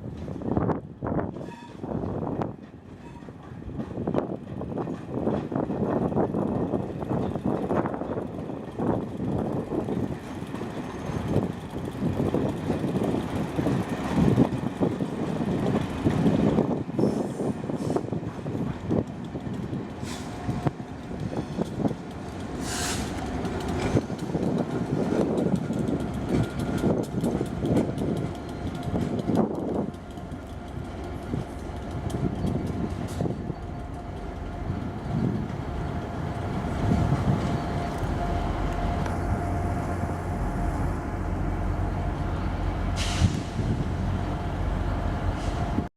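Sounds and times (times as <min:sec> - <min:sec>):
train wheels clattering over rails: 0:01.2 - 0:39.0.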